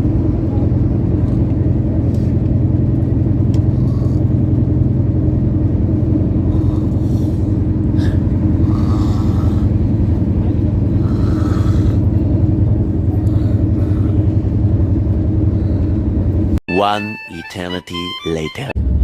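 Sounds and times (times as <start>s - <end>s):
low pulsing rumble: 0.0s - 16.6s, 18.8s - 19.0s.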